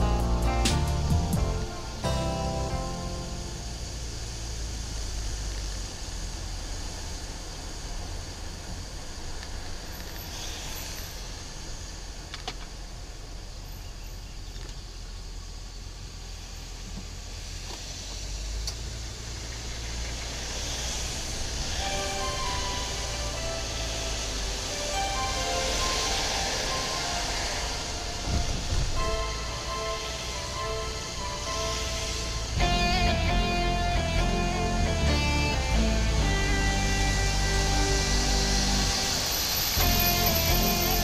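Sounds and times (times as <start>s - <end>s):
engine and road rumble: 0.0s - 41.0s
tyre hiss on wet road: 0.0s - 41.0s.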